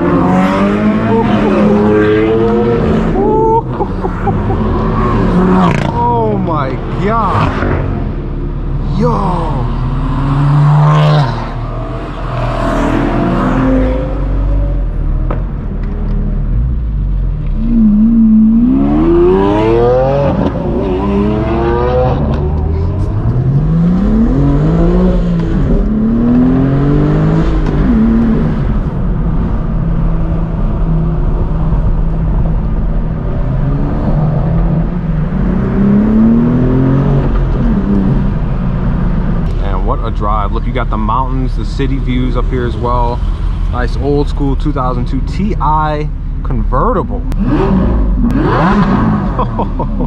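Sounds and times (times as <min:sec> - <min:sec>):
low drone of road noise: 0:00.0 - 0:50.0
sports car engines accelerating: 0:00.0 - 0:50.0.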